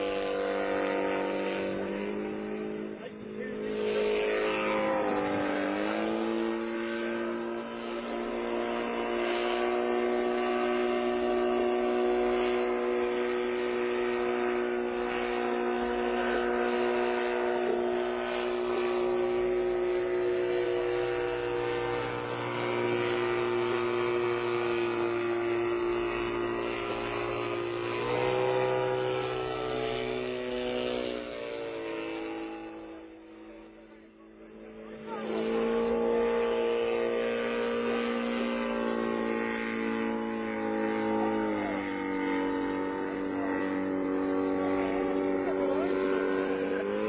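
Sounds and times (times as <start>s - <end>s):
helicopter engine running: 0.0s - 47.0s.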